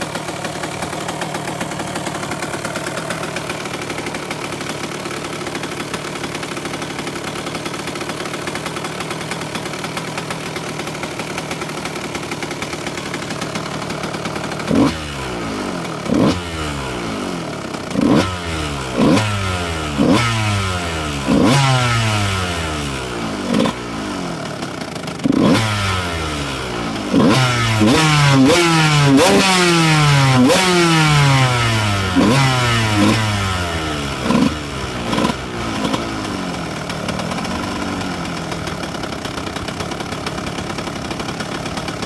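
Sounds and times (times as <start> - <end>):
two-stroke engine idling and revving: 0.0 - 42.0.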